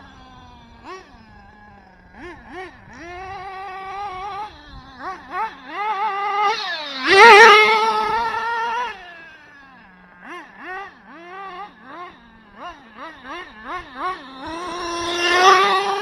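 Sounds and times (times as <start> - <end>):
small engine revving: 0.0 - 16.0.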